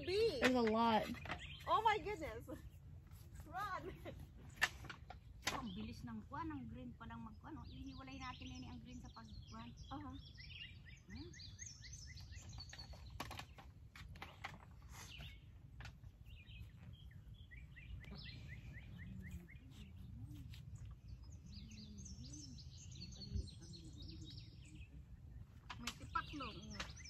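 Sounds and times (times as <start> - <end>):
low steady rumble: 0.0 - 27.0
small birds chirping: 0.0 - 27.0.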